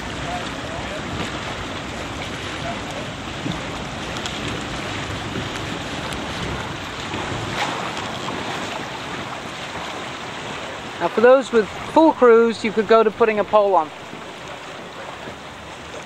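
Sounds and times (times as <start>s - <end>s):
wind noise on microphone: 0.0s - 14.3s
choppy water: 0.0s - 16.0s.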